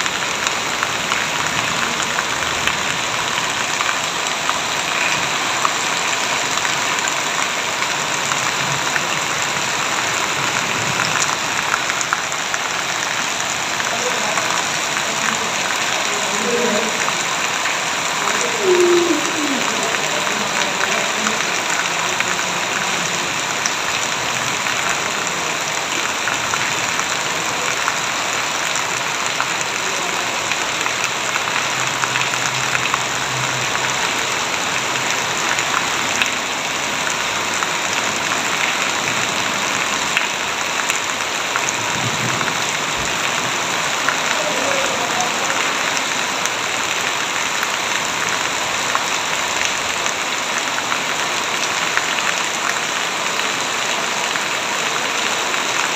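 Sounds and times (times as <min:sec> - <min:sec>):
heavy rain hissing: 0:00.0 - 0:55.9.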